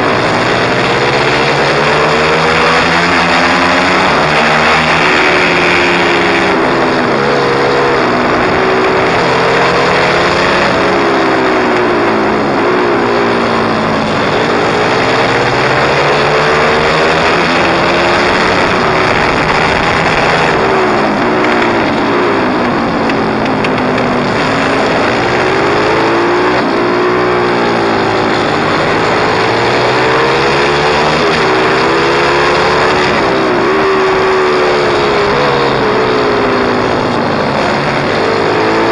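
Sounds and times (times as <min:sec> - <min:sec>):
pit bike engine revving: 0:00.0 - 0:38.9
steady rush of noise: 0:00.0 - 0:38.9.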